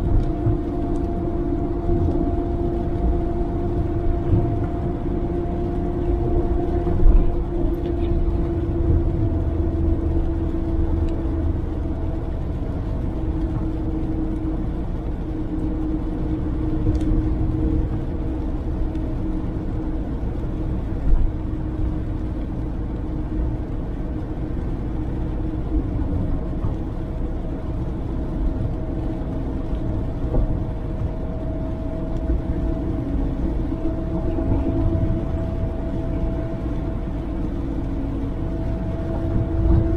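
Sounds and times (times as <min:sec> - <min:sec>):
car engine drone: 0:00.0 - 0:39.9
road rumble: 0:00.0 - 0:39.9.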